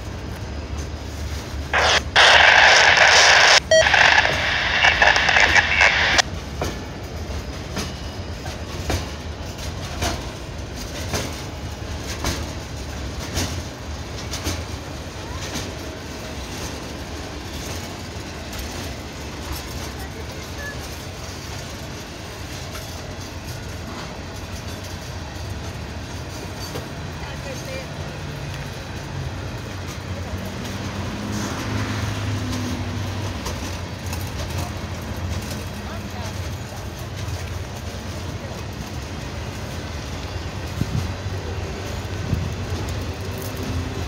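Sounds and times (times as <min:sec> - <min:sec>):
freight cars rumbling past: 0:06.3 - 0:44.0
wheels clicking over rail joints: 0:06.4 - 0:44.0.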